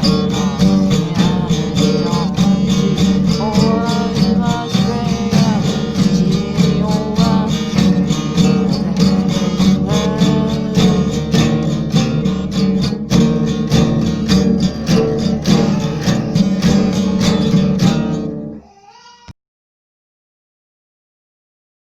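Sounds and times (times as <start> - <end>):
country music with acoustic guitar: 0.0 - 18.6.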